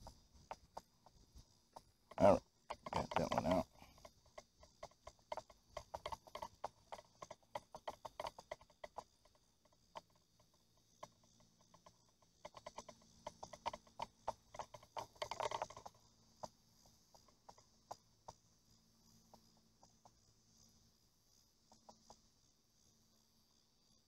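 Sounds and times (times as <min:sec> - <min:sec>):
rapid light clicks and taps: 0:00.0 - 0:24.0.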